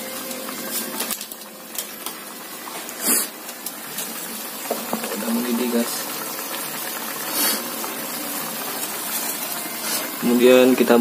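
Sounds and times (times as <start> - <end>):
broth simmering hiss: 0.0 - 11.0.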